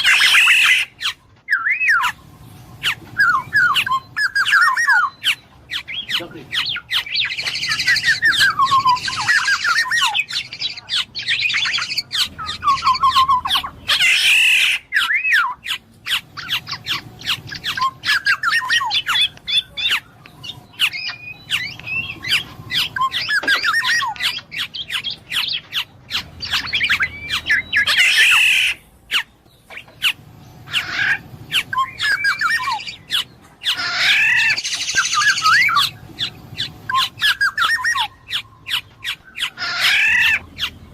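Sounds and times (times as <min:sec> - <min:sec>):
bird whistled calls: 0:00.0 - 0:40.9
harsh raspy bird calls: 0:00.0 - 0:40.9.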